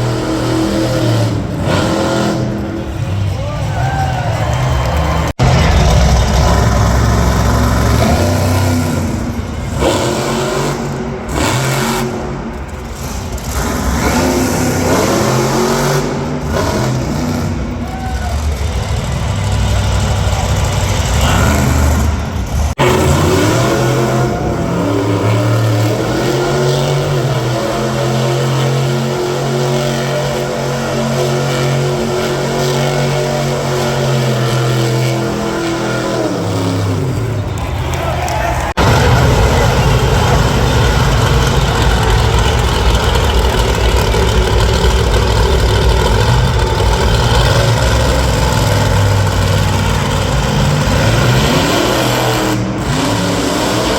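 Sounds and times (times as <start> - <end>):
monster truck engines revving: 0.0 - 53.9.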